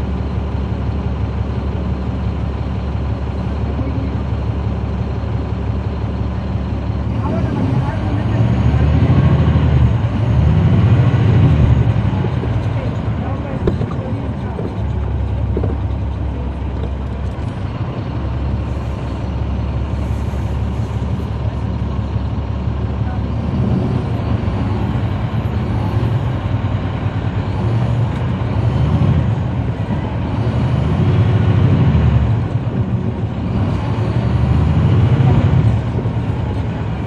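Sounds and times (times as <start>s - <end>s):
bus diesel engine droning: 0.0s - 37.0s.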